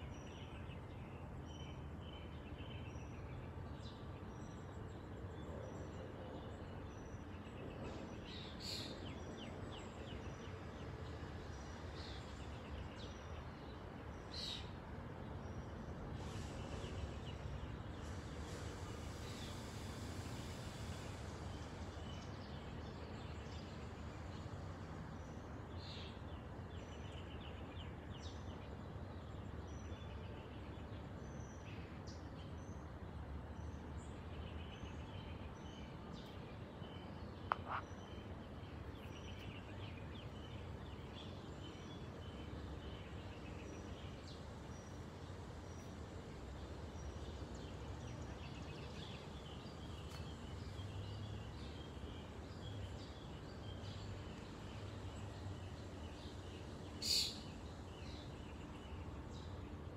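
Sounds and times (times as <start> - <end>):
small birds chirping: 0.0 - 59.9
wind rustling leafy trees: 0.0 - 59.9.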